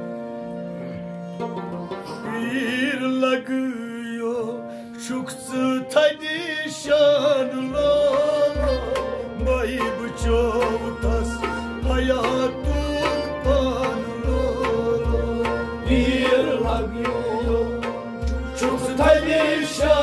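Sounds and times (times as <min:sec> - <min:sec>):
harmonium: 0:00.0 - 0:20.0
stringed instrument: 0:00.0 - 0:20.0
man singing: 0:02.1 - 0:20.0.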